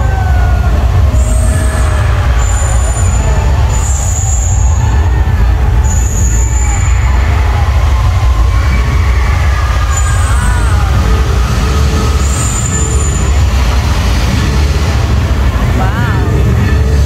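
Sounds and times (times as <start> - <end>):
loud low rumble: 0.0 - 17.0.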